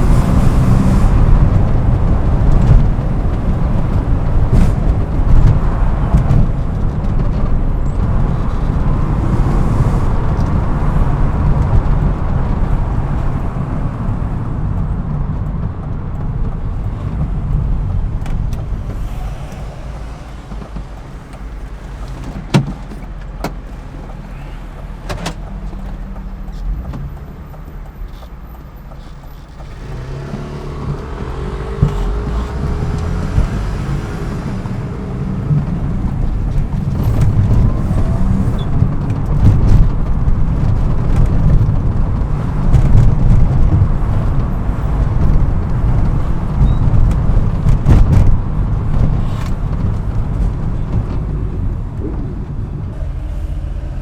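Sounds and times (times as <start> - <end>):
car engine driving: 0.0 - 54.0.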